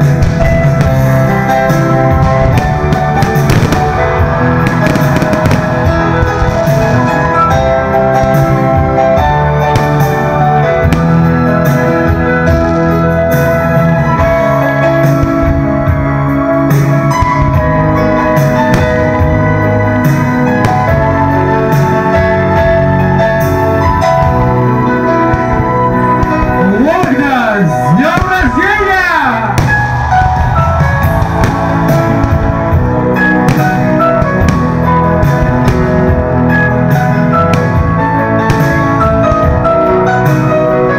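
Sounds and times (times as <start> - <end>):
rock music with guitar: 0.0 - 40.9.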